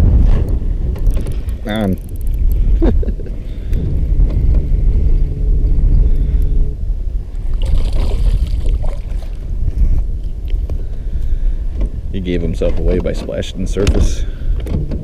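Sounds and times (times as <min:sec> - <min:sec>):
handling rumble: 0:00.0 - 0:15.0
steady low hum: 0:00.0 - 0:15.0
wind buffeting microphone: 0:00.0 - 0:15.0.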